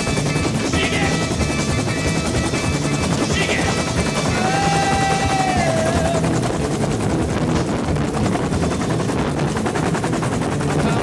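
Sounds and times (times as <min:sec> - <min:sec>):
helicopter rotor beating: 0:00.0 - 0:11.0
steady rushing noise: 0:00.0 - 0:11.0.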